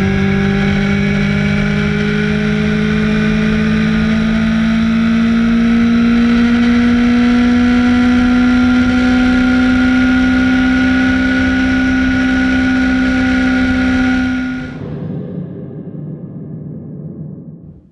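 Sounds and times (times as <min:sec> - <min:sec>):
motorcycle engine at high revs: 0:00.0 - 0:14.8.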